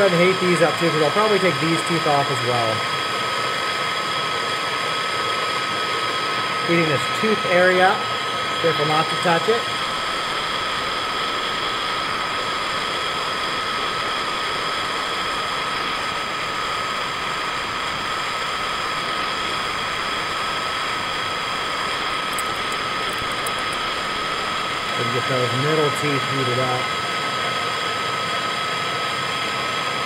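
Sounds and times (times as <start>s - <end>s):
gas torch flame hissing: 0.0s - 29.3s.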